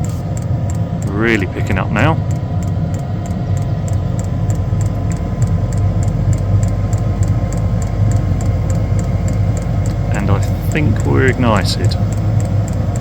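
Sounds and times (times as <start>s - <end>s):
fast even ticking: 0.0s - 13.0s
heater fan humming: 0.0s - 13.0s.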